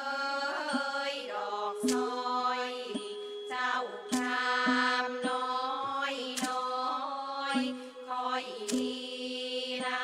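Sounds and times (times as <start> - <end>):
sharp percussion stroke: 0.0 - 9.9.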